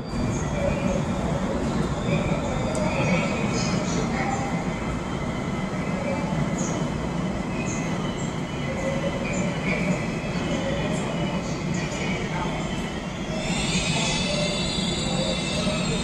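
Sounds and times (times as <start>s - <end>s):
faint high wheel squeaks: 0.0s - 16.0s
subway train rumbling on rails: 0.0s - 16.0s.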